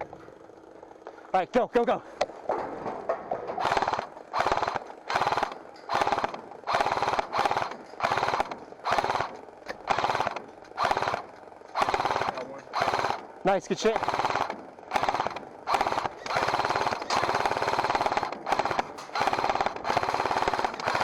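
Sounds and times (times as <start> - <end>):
airsoft gun firing bursts: 3.6 - 21.0.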